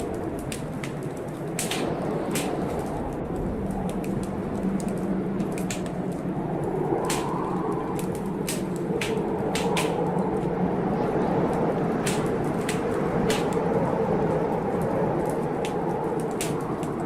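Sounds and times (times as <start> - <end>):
blizzard wind: 0.0 - 17.0
wood fire crackling: 0.0 - 17.0.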